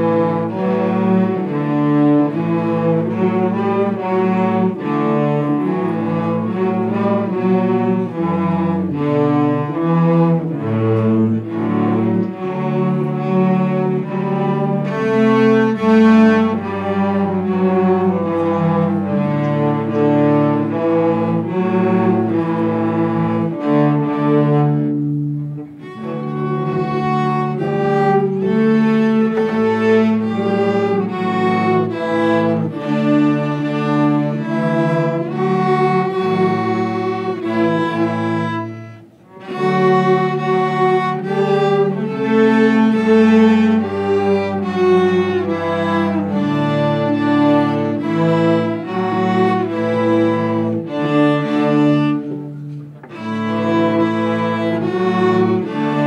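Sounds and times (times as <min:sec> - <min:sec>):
cellos bowing sustained notes: 0:00.0 - 0:56.0.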